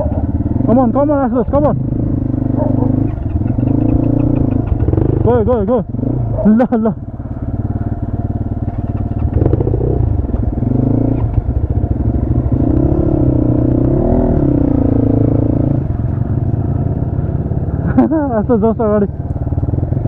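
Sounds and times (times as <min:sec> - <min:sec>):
motorcycle engine at low speed: 0:00.0 - 0:20.0.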